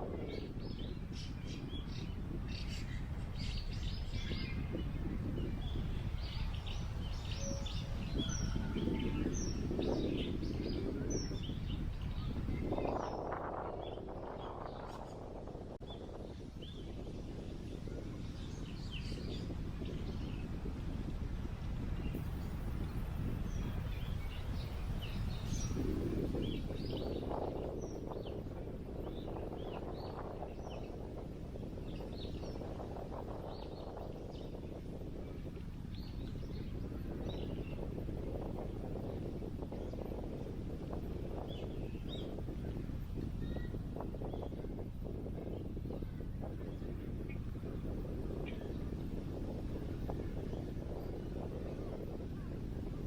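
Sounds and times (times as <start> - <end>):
small birds chirping: 0.0 - 52.9
wind rumbling on microphone: 0.0 - 53.0.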